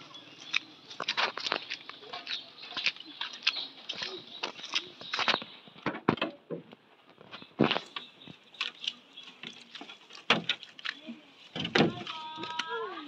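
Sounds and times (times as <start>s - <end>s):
raindrops tapping close: 0.0s - 13.0s.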